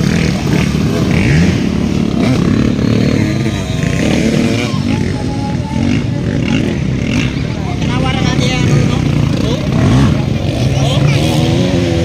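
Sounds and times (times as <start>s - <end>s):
motocross engines revving: 0.0s - 12.0s.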